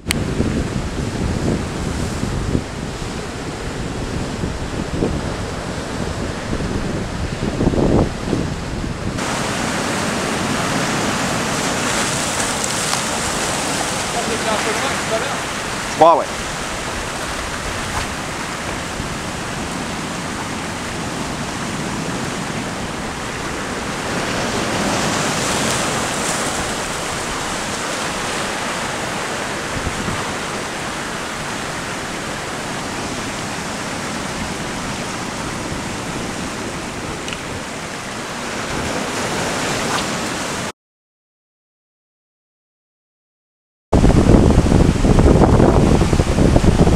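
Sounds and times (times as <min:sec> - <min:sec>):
sea surf breaking over rocks: 0:00.0 - 0:40.7, 0:44.0 - 0:46.9.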